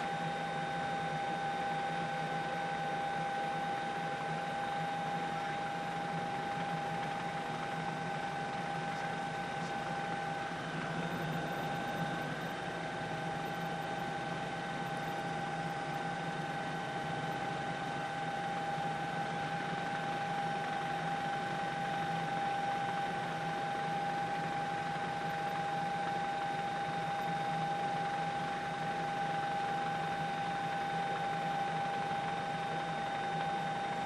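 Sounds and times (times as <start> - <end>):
helicopter whine and hum: 0.0 - 34.0.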